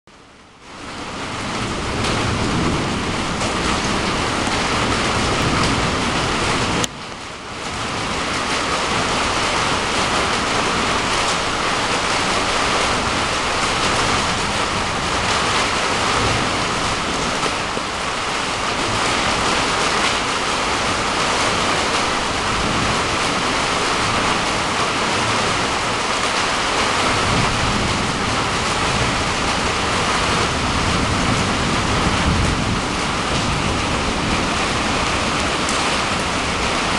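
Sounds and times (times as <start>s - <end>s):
heavy rain pouring: 0.1s - 36.9s.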